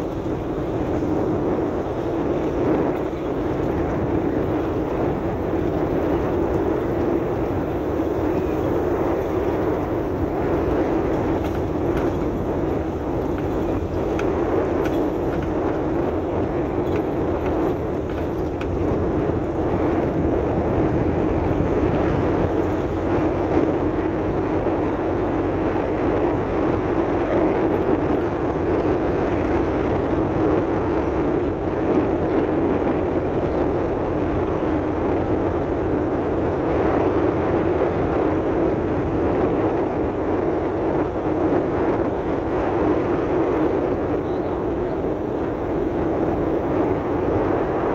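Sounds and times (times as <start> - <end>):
car engine driving: 0.0 - 47.9
tyres on dirt road: 0.0 - 47.9.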